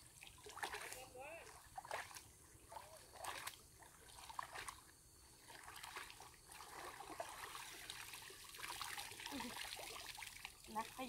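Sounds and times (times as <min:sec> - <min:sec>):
small water splashes: 0:00.0 - 0:11.0
water trickling: 0:00.0 - 0:11.0.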